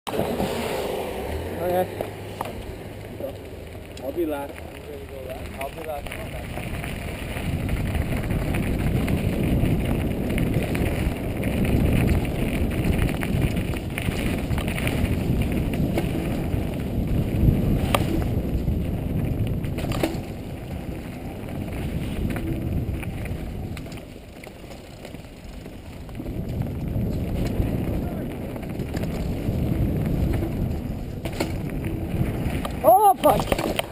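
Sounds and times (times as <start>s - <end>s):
bike tyres rumbling on dirt: 0.1s - 33.9s
wind buffeting microphone: 0.2s - 33.9s.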